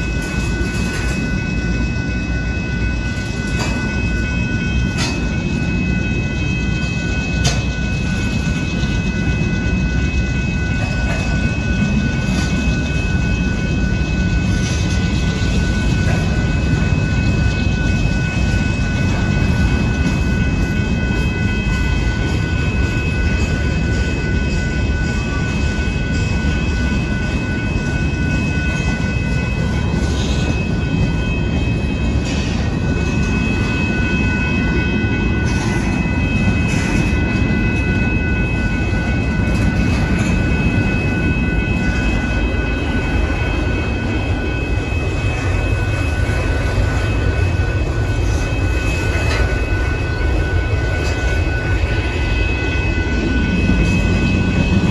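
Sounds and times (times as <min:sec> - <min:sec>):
high-pitched ringing tones: 0:00.0 - 0:54.9
steel wheels rumbling on rails: 0:00.0 - 0:54.9.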